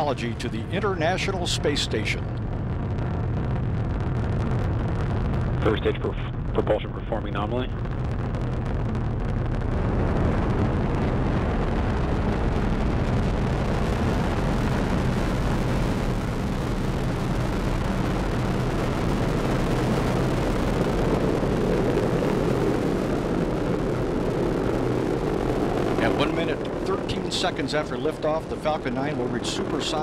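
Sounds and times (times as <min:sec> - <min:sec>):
rocket engines deep rumble: 0:00.0 - 0:30.0.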